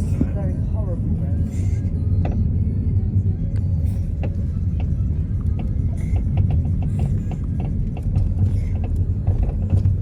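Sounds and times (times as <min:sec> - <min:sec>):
car engine and tyres drone: 0:00.0 - 0:10.0.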